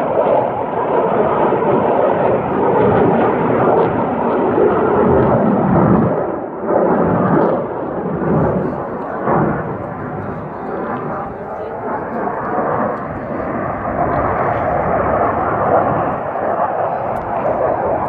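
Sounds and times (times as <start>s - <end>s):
jet aircraft roaring overhead: 0.0s - 18.0s.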